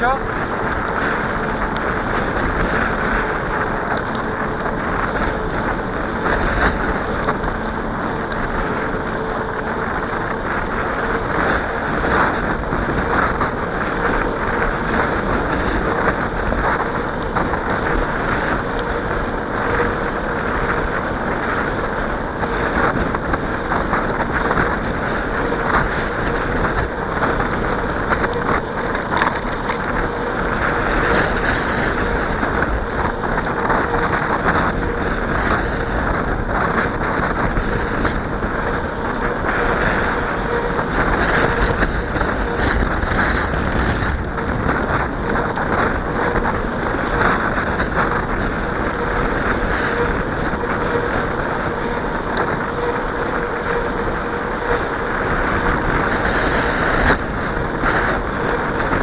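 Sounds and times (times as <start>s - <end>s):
bicycle rolling: 0.0s - 59.0s
faint steady hum: 0.0s - 59.0s
wind rushing on microphone: 0.0s - 59.0s.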